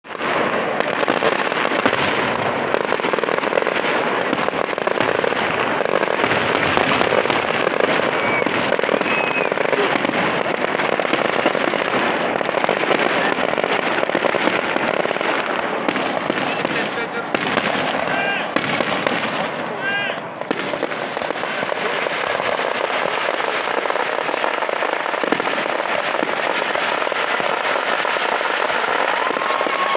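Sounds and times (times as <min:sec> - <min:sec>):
fireworks crackling: 0:00.0 - 0:29.9.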